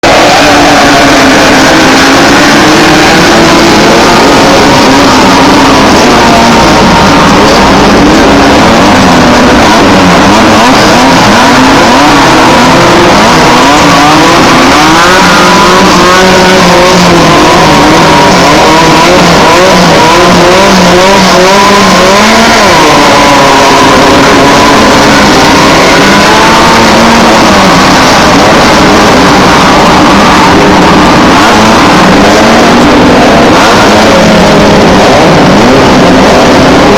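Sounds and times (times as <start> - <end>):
race buggy engines revving: 0.0 - 36.9.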